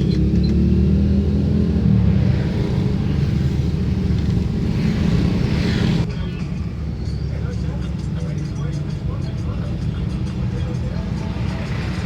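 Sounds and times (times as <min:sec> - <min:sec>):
diesel bus engine rumbling: 0:00.0 - 0:12.0.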